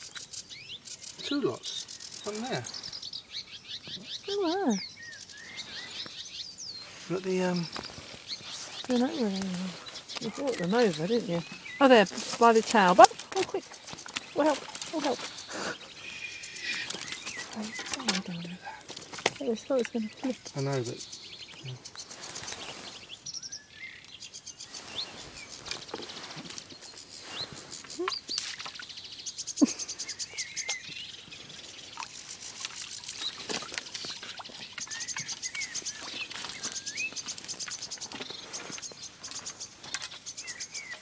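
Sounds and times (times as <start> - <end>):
high bird trill: 0.0 - 18.8, 19.4 - 41.0
birds singing and chirping: 0.0 - 41.0.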